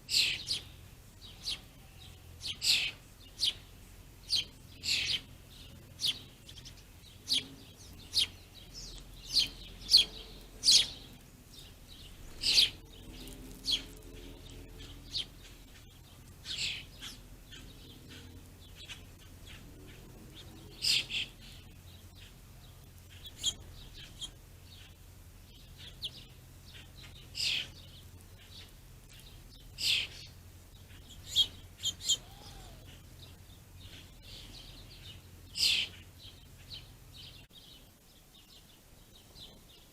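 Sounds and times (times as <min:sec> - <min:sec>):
faint low hum: 0:00.0 - 0:39.9
songbirds chirping: 0:00.0 - 0:39.9.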